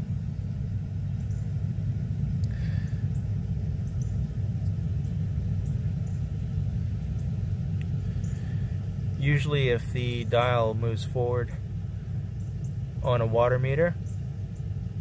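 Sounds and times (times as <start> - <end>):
low mechanical rumble with hum: 0.0 - 15.0.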